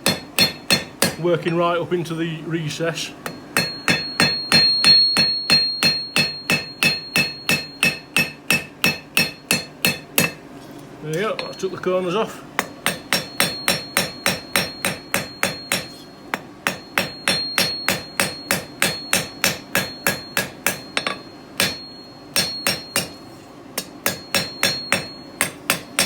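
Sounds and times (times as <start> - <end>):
hammer striking steel on anvil: 0.0 - 1.7, 3.2 - 10.4, 12.6 - 26.0.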